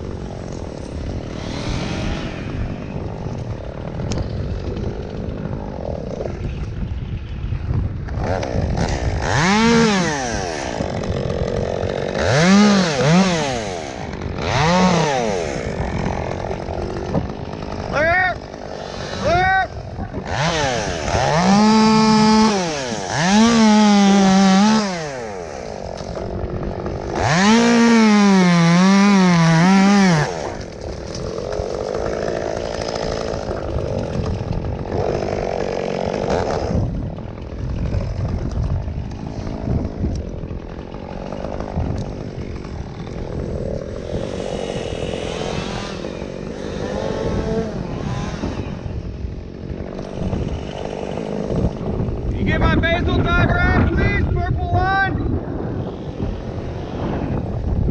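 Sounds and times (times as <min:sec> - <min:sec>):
chainsaw at full throttle: 0:00.0 - 0:06.8, 0:08.0 - 0:52.8, 0:55.5 - 0:57.9
rough mechanical noise: 0:00.0 - 0:57.9.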